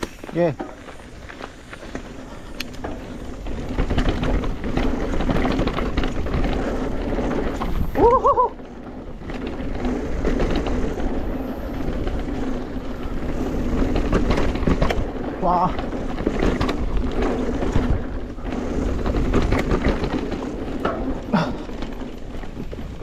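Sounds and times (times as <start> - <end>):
bike clattering over bumps: 0.0 - 23.0
wind on microphone: 1.6 - 21.7.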